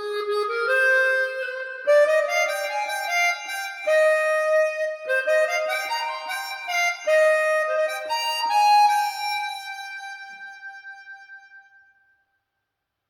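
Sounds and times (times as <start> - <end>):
instrumental melody of held notes: 0.0 - 11.6.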